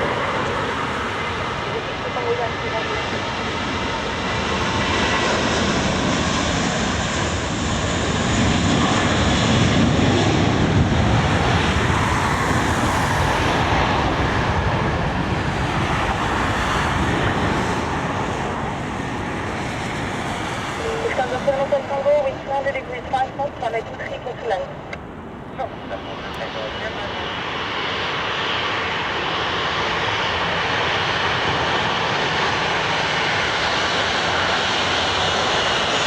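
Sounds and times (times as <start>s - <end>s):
jet airliner passing by: 0.0s - 36.0s.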